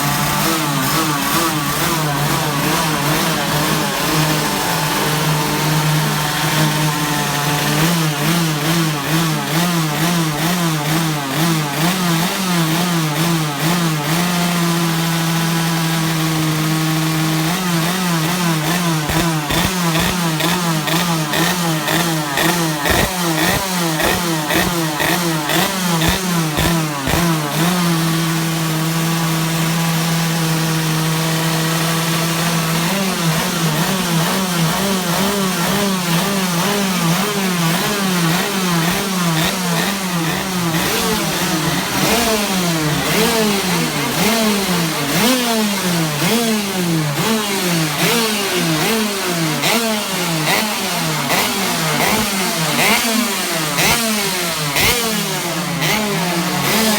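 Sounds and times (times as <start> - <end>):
engine crackles: 0.0 - 16.2, 17.0 - 56.9
two-stroke kart engine revving: 0.0 - 56.9.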